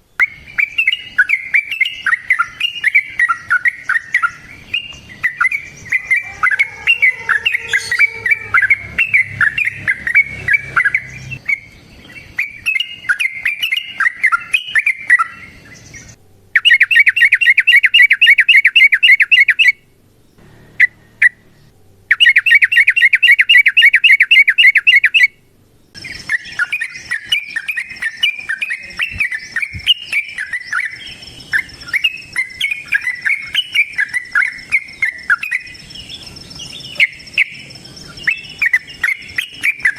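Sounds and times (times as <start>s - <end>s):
high insect-like tone: 0.0s - 18.2s, 25.9s - 39.9s
bird chattering trills: 0.0s - 25.3s, 25.9s - 39.9s.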